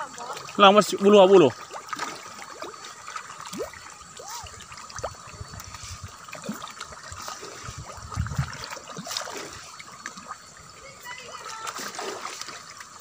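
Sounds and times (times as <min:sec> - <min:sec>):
fish splashing and gulping: 0:00.0 - 0:13.0.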